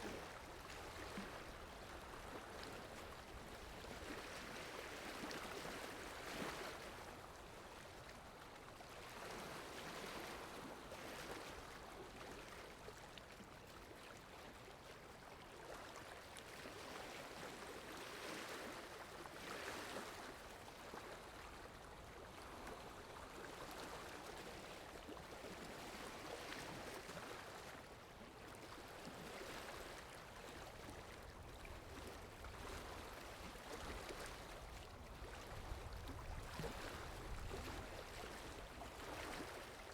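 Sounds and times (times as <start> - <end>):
sea water splashing and lapping: 0.0 - 39.9.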